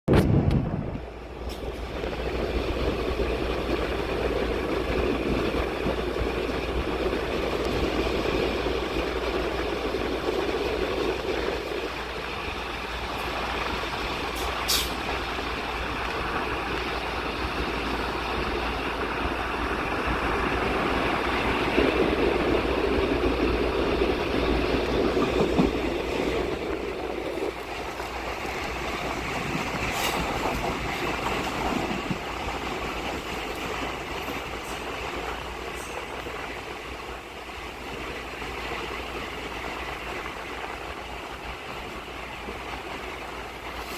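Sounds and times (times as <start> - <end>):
train rumbling: 0.1 - 43.9.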